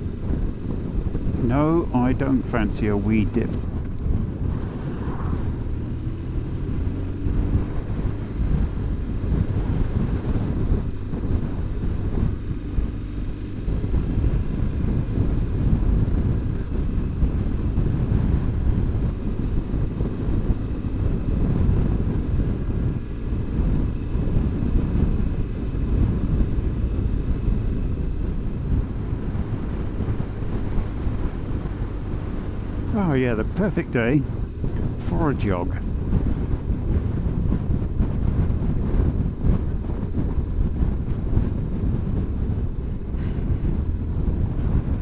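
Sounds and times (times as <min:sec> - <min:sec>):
motorcycle engine: 0:00.0 - 0:45.0
road noise: 0:00.0 - 0:45.0
wind buffeting microphone: 0:00.0 - 0:45.0.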